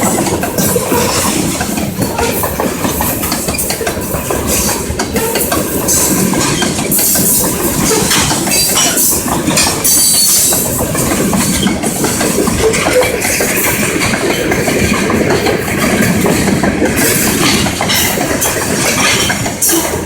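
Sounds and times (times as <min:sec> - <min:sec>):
train rumbling past: 0:00.0 - 0:20.0
wheel clicks and clatter on rails: 0:00.0 - 0:20.0.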